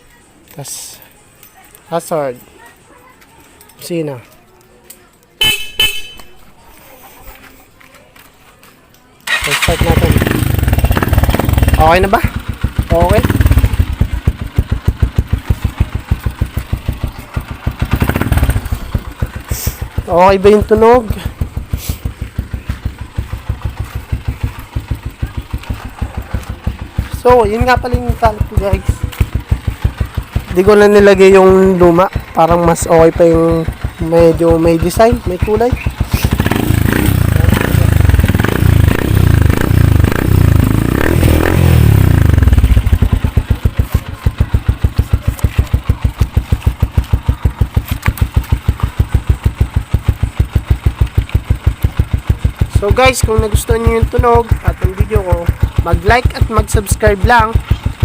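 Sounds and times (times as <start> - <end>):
motorcycle engine idling: 9.2 - 58.0.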